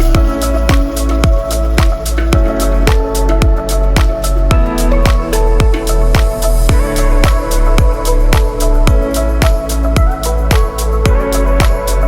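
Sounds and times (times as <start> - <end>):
electronic beat music: 0.0 - 12.0.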